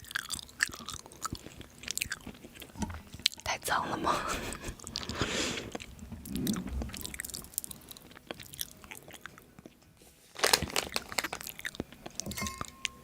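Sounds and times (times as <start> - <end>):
person chewing food: 0.0 - 3.5, 4.2 - 9.8, 10.4 - 12.4.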